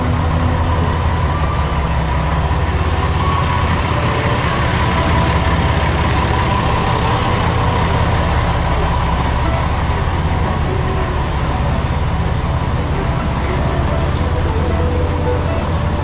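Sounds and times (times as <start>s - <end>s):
railcar diesel engine humming: 0.0s - 16.0s.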